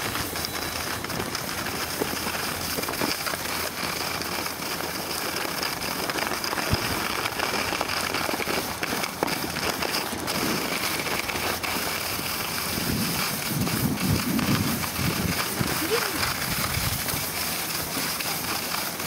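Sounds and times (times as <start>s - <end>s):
skis scraping over snow: 0.0s - 19.0s.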